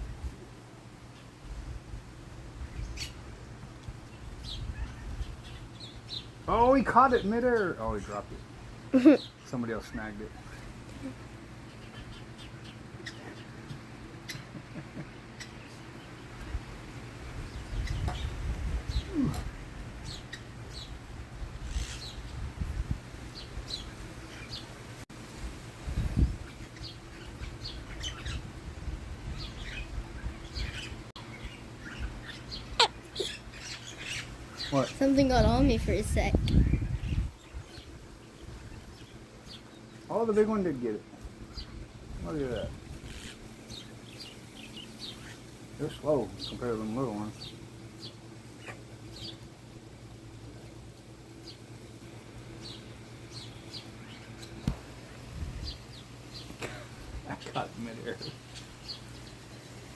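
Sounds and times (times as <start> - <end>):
steady low hum: 0.0 - 59.9
birds chirping: 2.6 - 25.0, 26.2 - 59.9.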